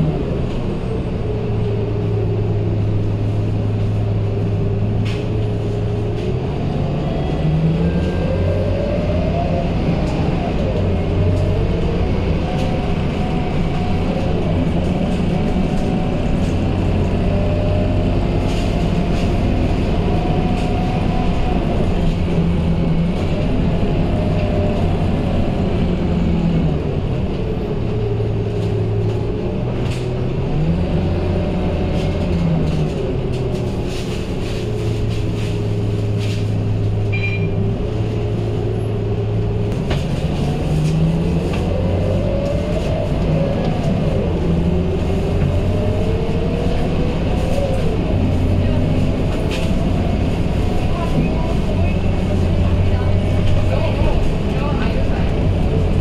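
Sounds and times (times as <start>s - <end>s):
bus diesel engine drone: 0.0s - 56.0s
bus interior rattles: 0.0s - 56.0s.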